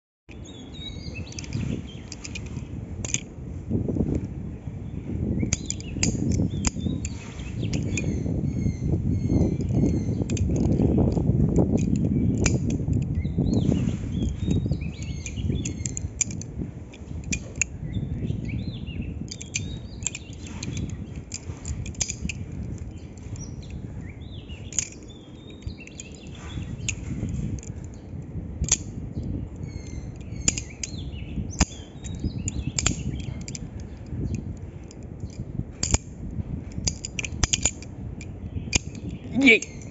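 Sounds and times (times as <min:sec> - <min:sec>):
butterfly knife handles clacking: 0:00.3 - 0:03.3, 0:05.4 - 0:39.9
birds chirping: 0:00.3 - 0:39.9.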